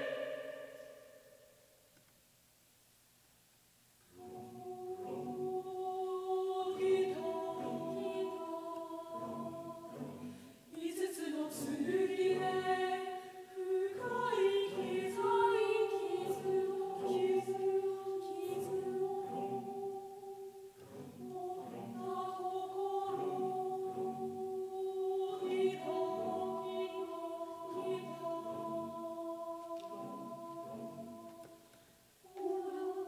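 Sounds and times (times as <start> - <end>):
mixed choir singing sustained chords: 0.0 - 1.8, 4.1 - 33.0.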